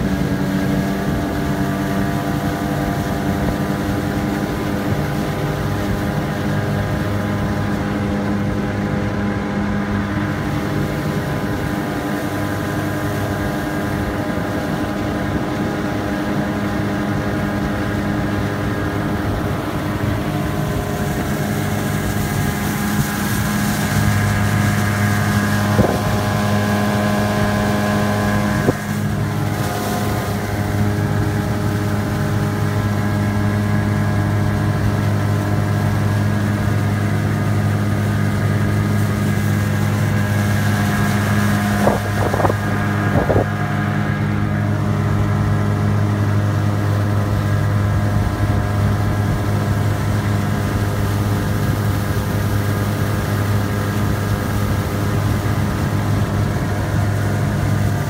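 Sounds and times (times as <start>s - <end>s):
outboard motor running: 0.0s - 58.0s.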